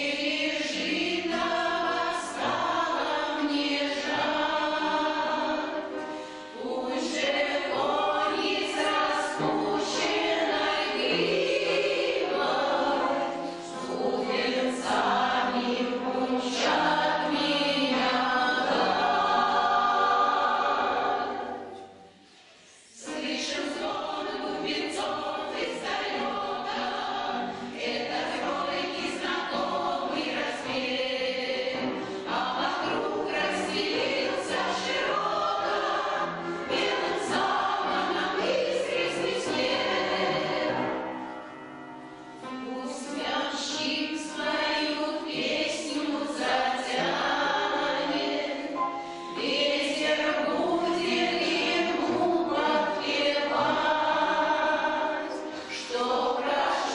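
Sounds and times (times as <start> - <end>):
choir singing: 0.0 - 56.9.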